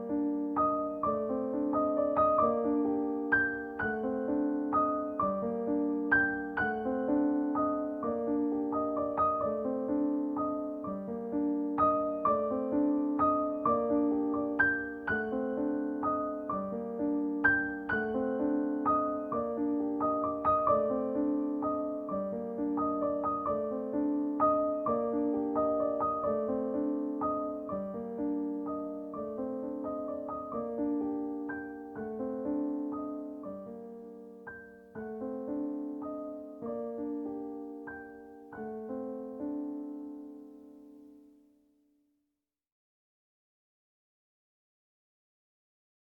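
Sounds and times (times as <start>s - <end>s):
slow solo piano piece: 0.0s - 41.5s.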